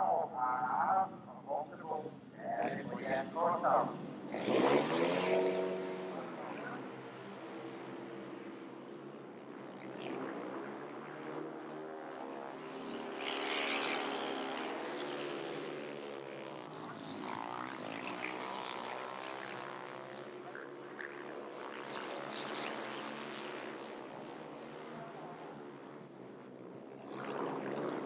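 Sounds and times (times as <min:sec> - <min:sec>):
motorcycle engines droning: 0:00.0 - 0:28.0.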